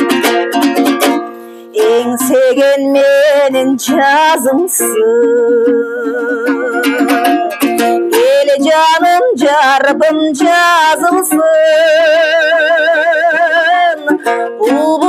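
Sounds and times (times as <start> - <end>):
strummed lute: 0.0 - 15.0
woman singing with vibrato: 1.6 - 15.0.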